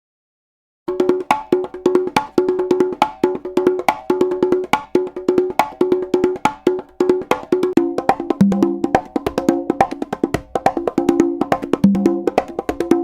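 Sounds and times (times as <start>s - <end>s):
congas playing fast rhythm: 0.9s - 13.0s.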